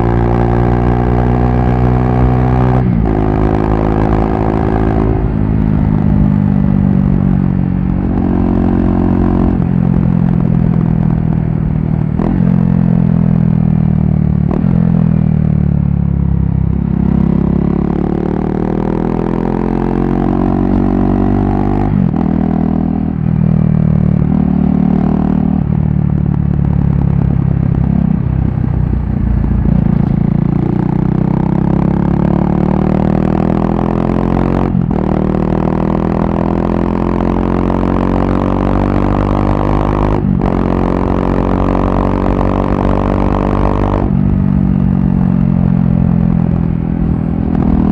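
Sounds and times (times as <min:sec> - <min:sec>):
loud motorcycle engine revving: 0:00.0 - 0:11.1, 0:16.7 - 0:25.9, 0:26.6 - 0:47.9.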